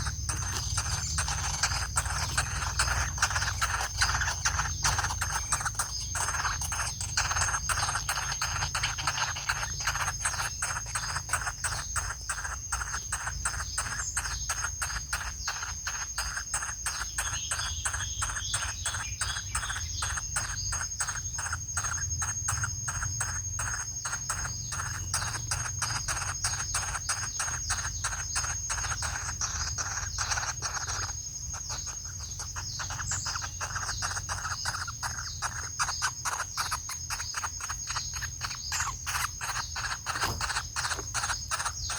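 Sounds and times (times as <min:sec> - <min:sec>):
woodpecker pecking: 0:00.0 - 0:41.9.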